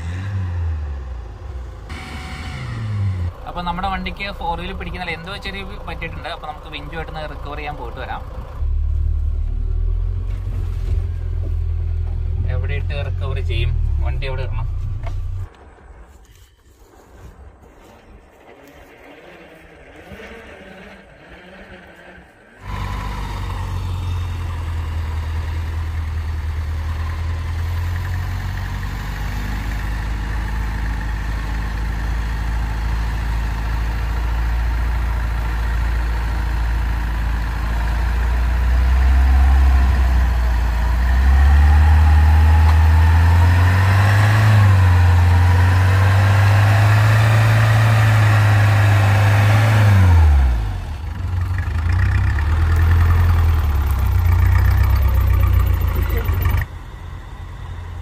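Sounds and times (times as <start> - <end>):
jeep engine running: 0.0 - 15.8, 18.6 - 58.0.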